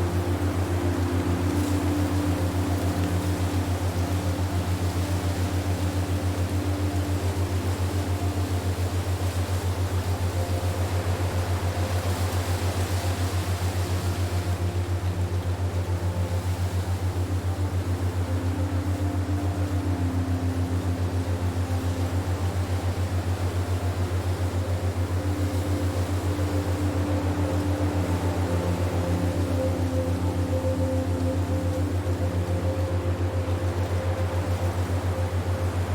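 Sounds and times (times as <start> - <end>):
pulsing low drone hum: 0.0 - 35.9.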